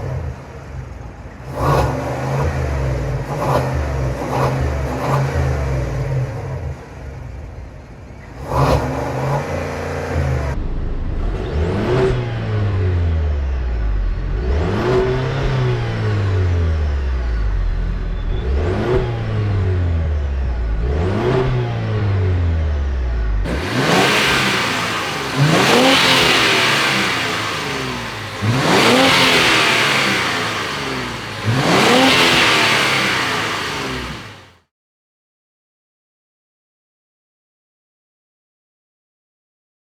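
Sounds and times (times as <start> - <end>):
harsh car engine revs: 0.0 - 7.2, 8.2 - 34.6
car engines revving: 0.0 - 34.6.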